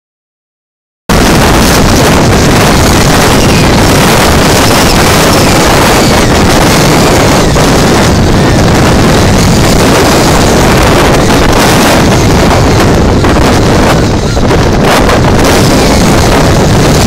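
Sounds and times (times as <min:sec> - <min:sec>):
storm wind buffeting microphone: 0:01.1 - 0:17.0.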